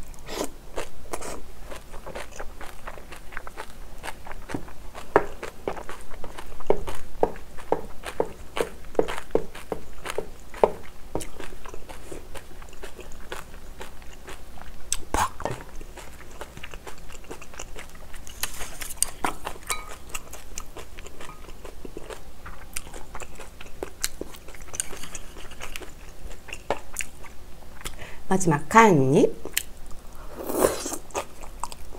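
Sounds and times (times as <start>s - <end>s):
chewing and crunching food: 0.0s - 28.0s, 29.4s - 31.9s.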